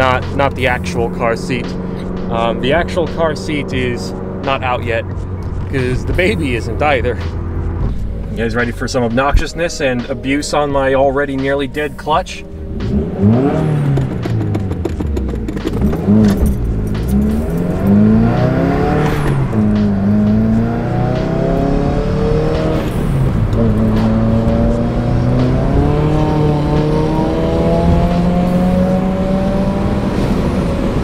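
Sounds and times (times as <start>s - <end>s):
car engine revving through gears: 0.0s - 9.4s, 12.4s - 31.0s.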